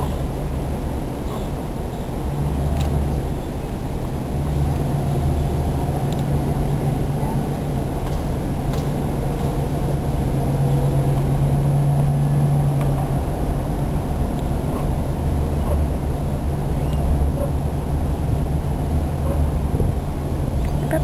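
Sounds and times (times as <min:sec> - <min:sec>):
car engine hum: 0:00.0 - 0:21.0
road noise inside car: 0:00.0 - 0:21.0.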